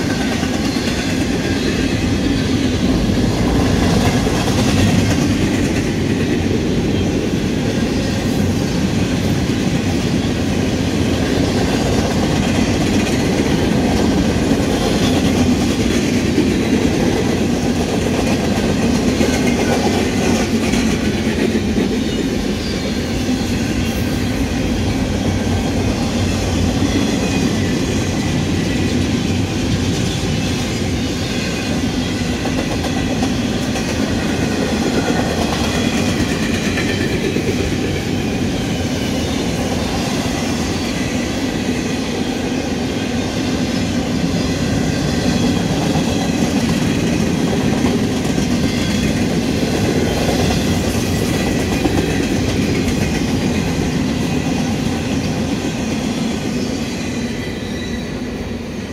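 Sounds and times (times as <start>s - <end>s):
steel train wheels on rails: 0.0s - 58.9s.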